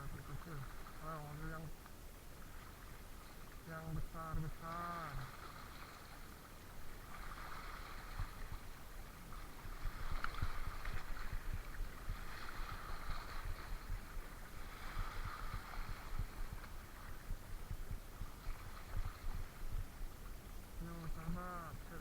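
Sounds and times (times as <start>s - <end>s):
seawater sloshing and lapping: 0.0s - 22.0s.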